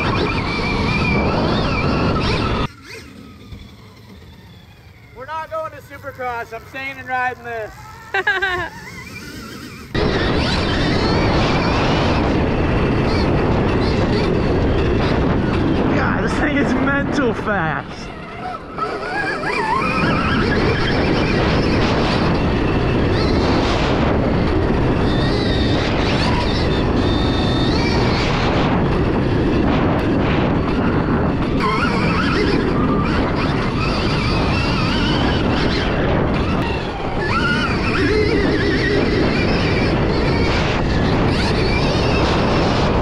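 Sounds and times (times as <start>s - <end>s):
electric motor whine: 0.0s - 43.0s
wind rush and trail rumble: 0.0s - 43.0s.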